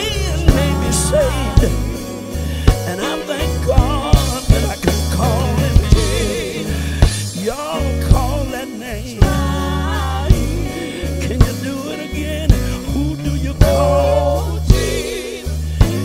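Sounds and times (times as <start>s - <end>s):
gospel band playing: 0.0s - 16.0s
person singing: 0.0s - 16.0s.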